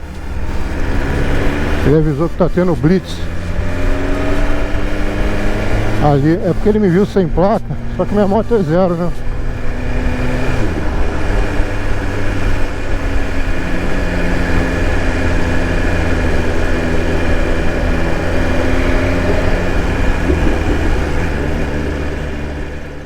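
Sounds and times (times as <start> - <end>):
motorcycle engine idling low: 1.8 - 23.0.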